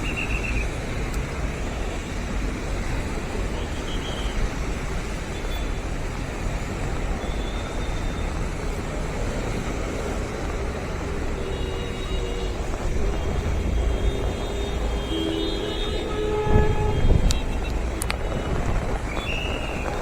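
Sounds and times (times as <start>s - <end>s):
road traffic roar: 0.0s - 20.0s.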